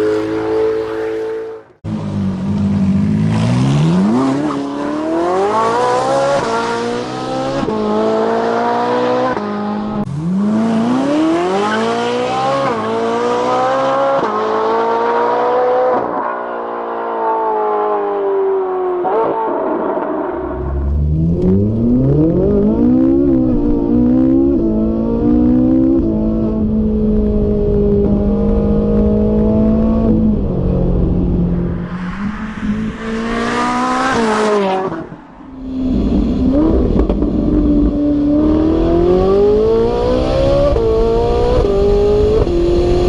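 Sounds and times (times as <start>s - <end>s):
car engine accelerating hard: 0.0s - 43.0s.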